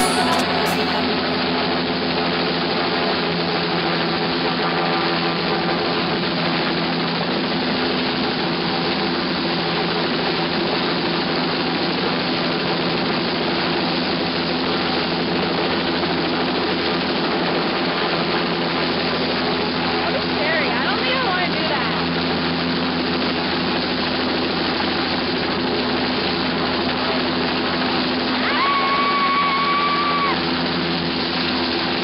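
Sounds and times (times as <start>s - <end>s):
helicopter engine and rotor: 0.5s - 28.4s, 30.4s - 32.0s.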